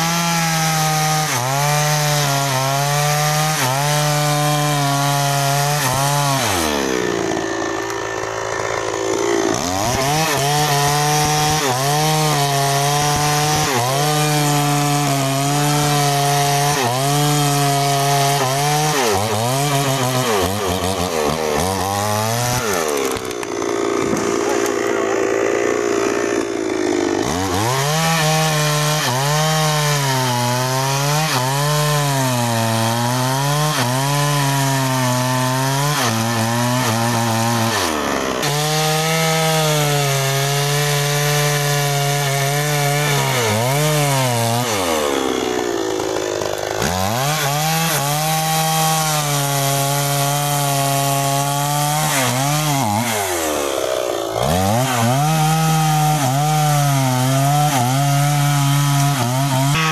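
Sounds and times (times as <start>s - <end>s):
chainsaw cutting a log: 0.0s - 59.9s.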